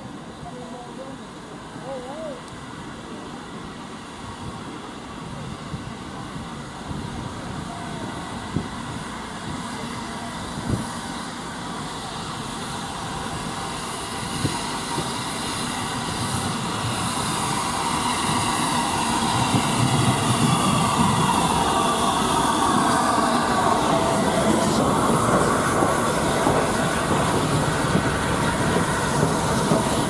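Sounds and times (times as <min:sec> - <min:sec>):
train running on rails: 0:00.0 - 0:30.0.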